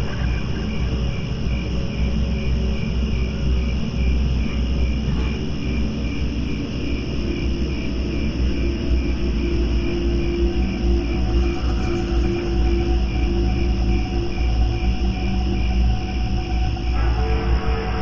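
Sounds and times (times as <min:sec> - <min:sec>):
crickets chirping: 0:00.0 - 0:18.0
low rumble: 0:00.0 - 0:18.0.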